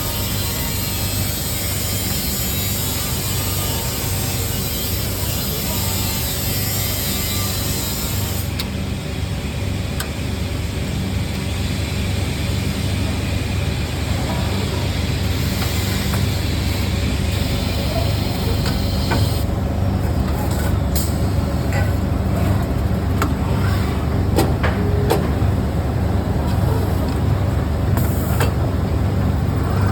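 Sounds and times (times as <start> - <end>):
machinery humming: 0.0 - 29.9.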